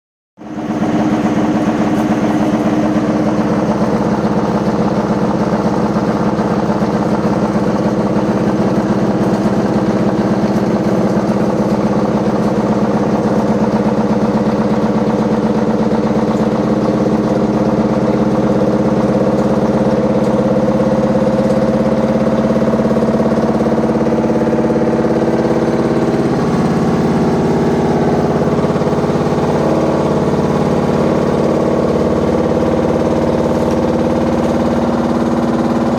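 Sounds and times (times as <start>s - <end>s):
washing machine running noisily: 0.4s - 35.9s.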